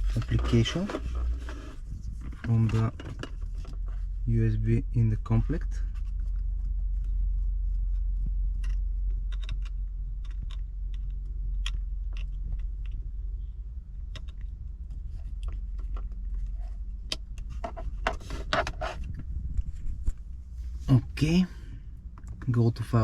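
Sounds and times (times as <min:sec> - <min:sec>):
car cabin hum: 0:00.0 - 0:23.0.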